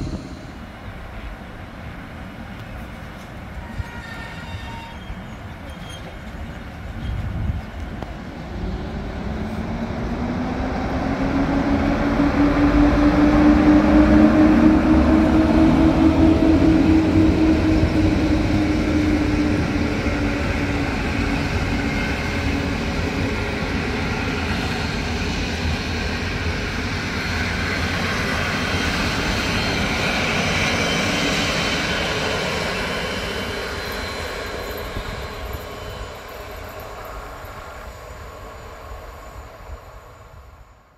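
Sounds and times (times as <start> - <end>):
train wheels rumbling on rails: 0.0 - 40.2.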